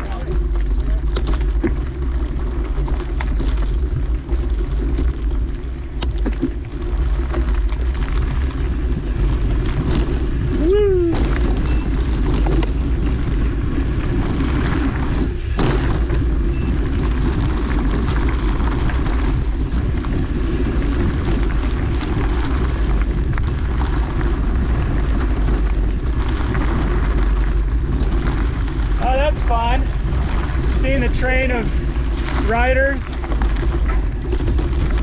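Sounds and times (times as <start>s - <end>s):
bike tyres on trail: 0.0s - 35.0s
wind rumble on microphone: 0.0s - 35.0s.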